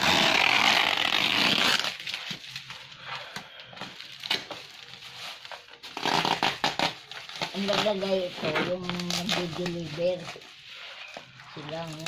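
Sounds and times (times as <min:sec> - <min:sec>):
packing tape tearing: 0:00.0 - 0:10.5
bubble wrap crinkling: 0:00.0 - 0:12.0.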